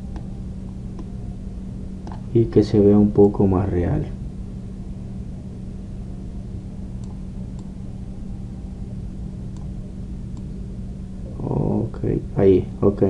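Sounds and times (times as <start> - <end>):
low electrical hum and hiss: 0.0 - 13.0.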